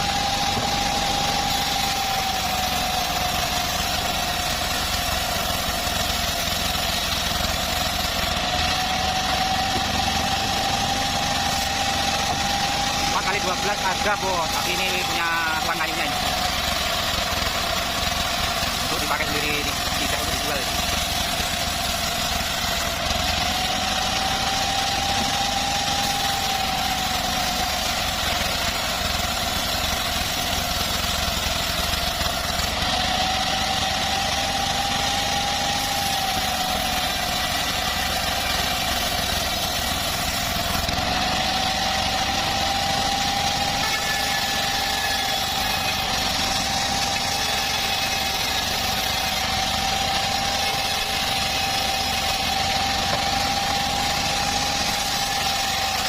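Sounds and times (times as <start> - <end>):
bandsaw sawmill engine humming: 0.0 - 56.0.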